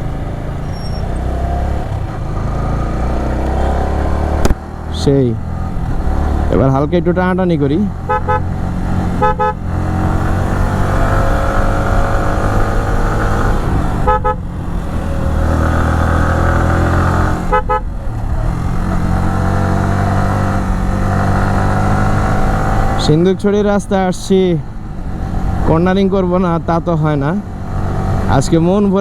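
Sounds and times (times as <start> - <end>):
motorcycle engine accelerating: 0.0 - 24.0, 24.7 - 29.0.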